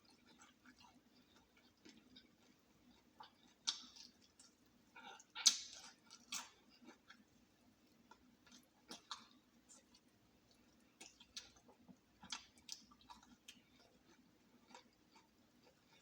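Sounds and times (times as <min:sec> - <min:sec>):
person chewing crispy food: 0:00.0 - 0:16.0.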